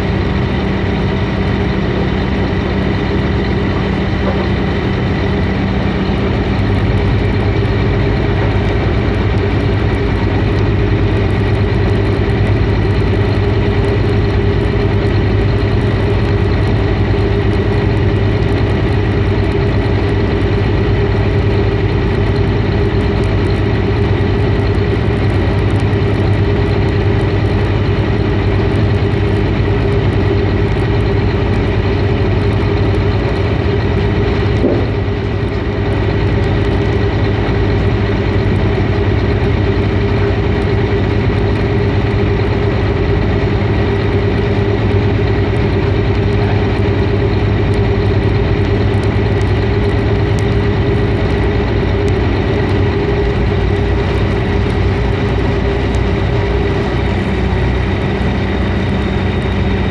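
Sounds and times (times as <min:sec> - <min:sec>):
heavy engine running: 0:00.0 - 0:59.9.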